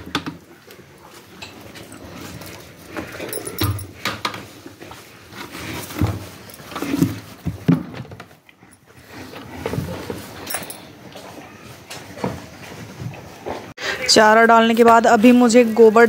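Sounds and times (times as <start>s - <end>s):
cow chewing fodder: 0.1s - 13.7s.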